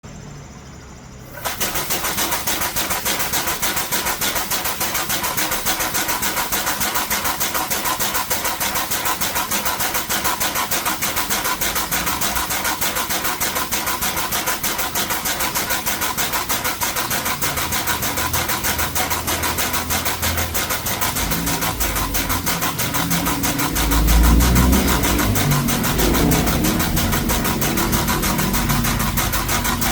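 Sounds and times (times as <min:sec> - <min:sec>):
pump air valve hissing pulses: 0:01.2 - 0:29.9.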